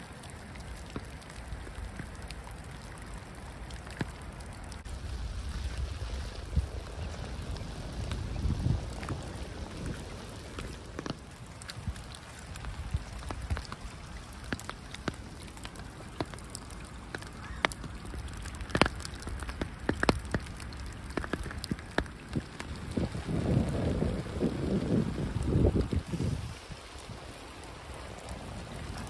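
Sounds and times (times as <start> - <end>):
light rain on water: 0.0 - 29.0
raindrops plinking: 0.0 - 29.0.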